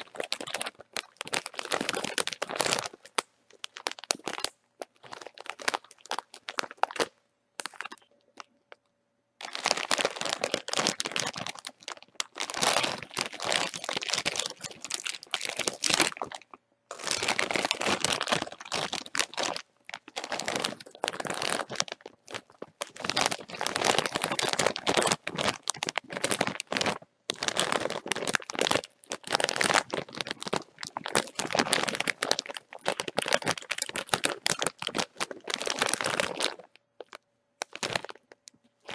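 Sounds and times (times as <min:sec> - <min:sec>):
plastic bag crinkling: 0:00.0 - 0:08.5, 0:09.4 - 0:38.9.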